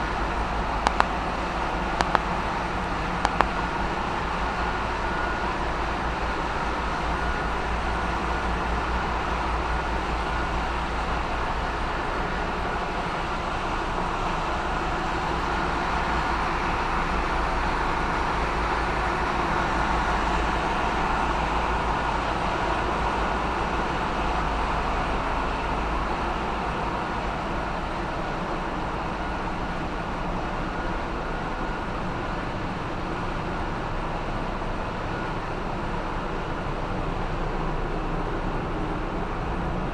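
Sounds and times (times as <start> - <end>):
diesel engine room rumble: 0.0 - 39.9.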